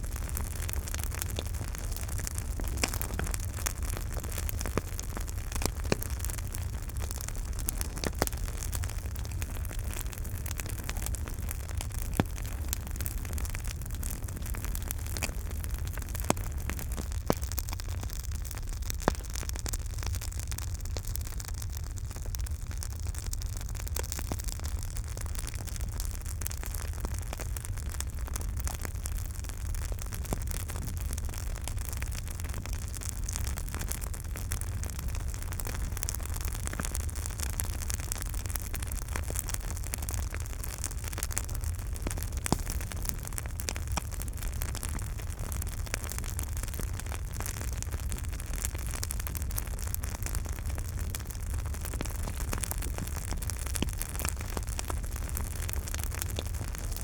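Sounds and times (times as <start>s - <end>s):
campfire crackles and pops: 0.0s - 57.0s
campfire flames rumbling: 0.0s - 57.0s.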